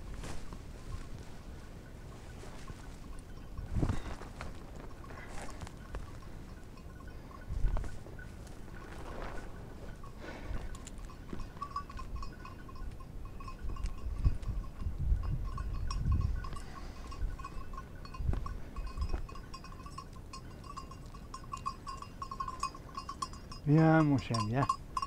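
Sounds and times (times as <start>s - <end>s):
dog bell jingling: 4.9s - 25.0s.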